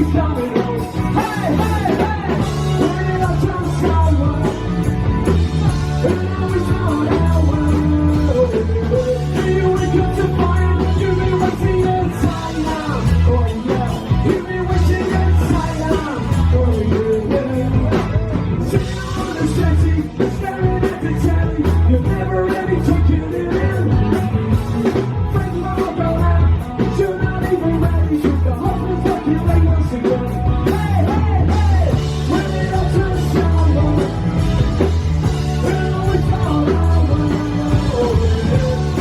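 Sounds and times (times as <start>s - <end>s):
lead singer singing: 0.0s - 39.0s
live rock band playing: 0.0s - 39.0s.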